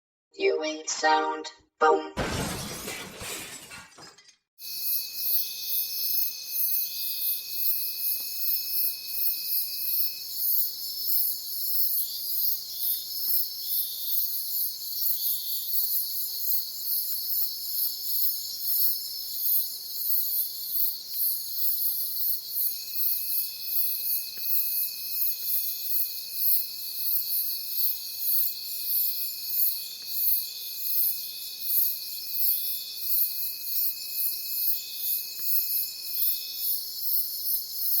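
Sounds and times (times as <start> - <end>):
crickets and cicadas chirring: 4.6 - 38.0
shrill fast-pulsing insect trill: 4.6 - 38.0.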